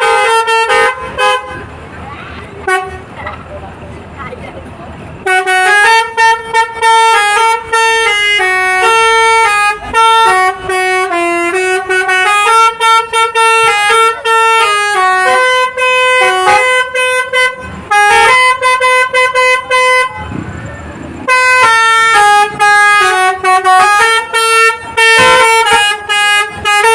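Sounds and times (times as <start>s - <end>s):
multi-tone bus horn tune: 0.0s - 3.5s, 5.2s - 26.9s.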